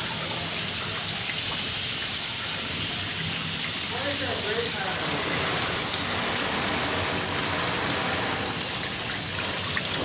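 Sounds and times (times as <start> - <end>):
juice dripping and running: 0.0 - 10.0.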